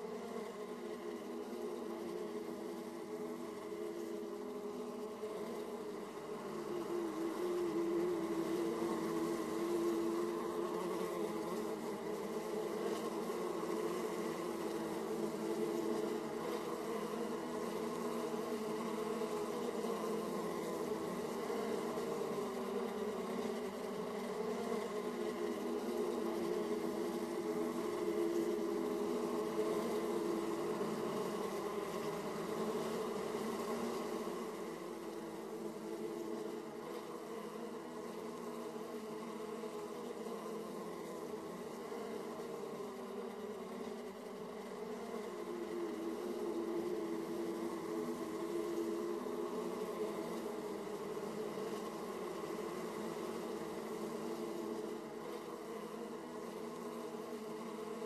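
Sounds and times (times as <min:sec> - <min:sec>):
honey bees buzzing: 0:00.0 - 0:58.0.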